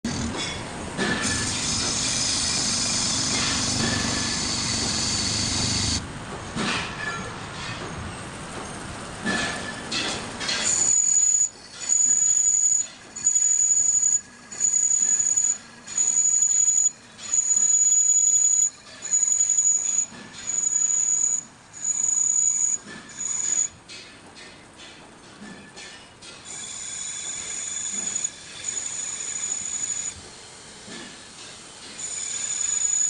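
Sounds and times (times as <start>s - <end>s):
machine pulley squealing: 0.0s - 6.0s, 6.6s - 24.8s, 25.4s - 30.3s, 30.9s - 33.0s.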